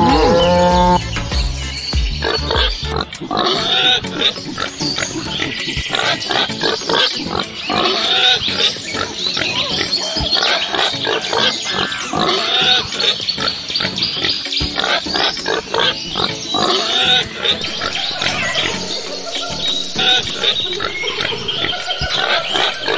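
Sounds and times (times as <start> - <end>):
pigs grunting and oinking: 0.0 - 1.1, 2.2 - 22.9.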